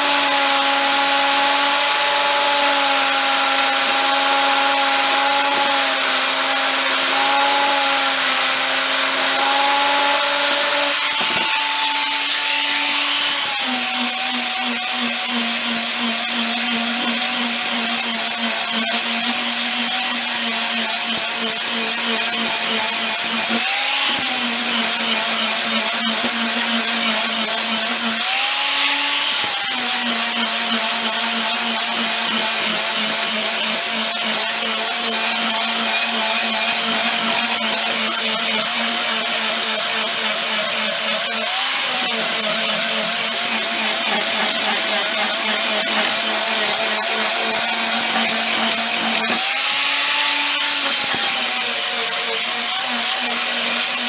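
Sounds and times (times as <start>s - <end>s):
electric power tool running: 0.0s - 54.0s.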